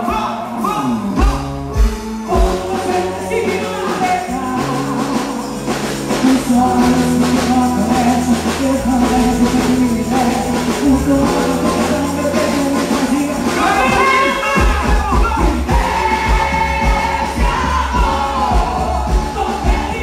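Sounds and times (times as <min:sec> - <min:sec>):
held bass notes: 0:00.0 - 0:20.0
steady percussion beat: 0:00.0 - 0:20.0
person singing melody: 0:00.1 - 0:20.0.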